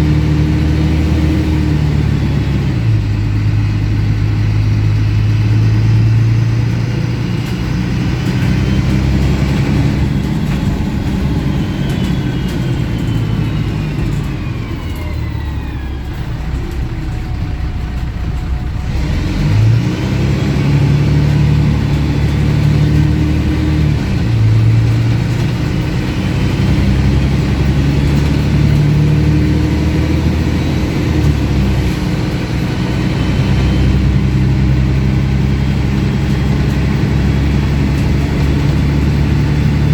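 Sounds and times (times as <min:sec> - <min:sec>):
bus diesel engine with loud exhaust: 0:00.0 - 0:39.9.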